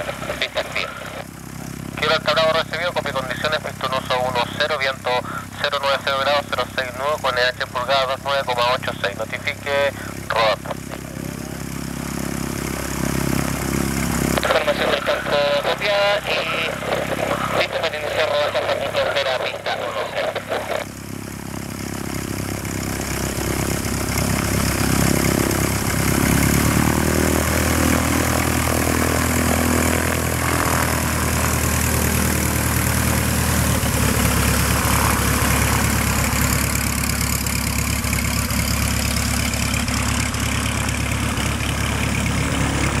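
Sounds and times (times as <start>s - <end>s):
light plane engine and propeller: 0.0s - 43.0s.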